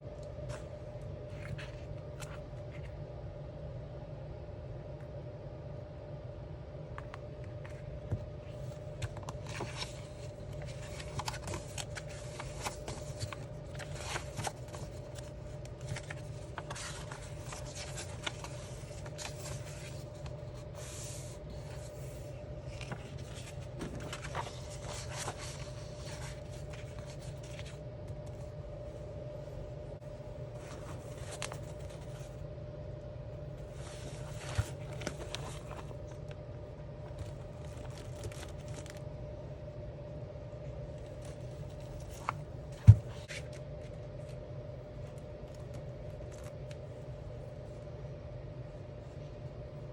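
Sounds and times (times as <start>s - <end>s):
low background hum: 0.0s - 49.9s.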